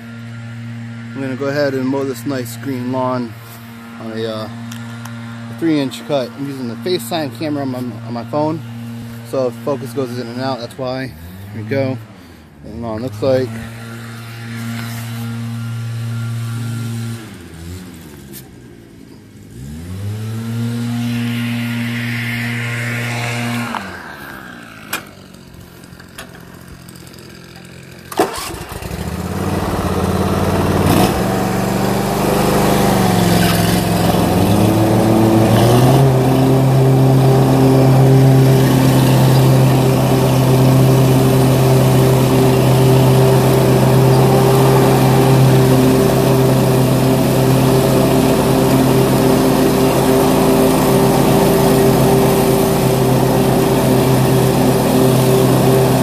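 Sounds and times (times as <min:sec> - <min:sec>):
lawn mower engine: 0:00.0 - 0:56.0.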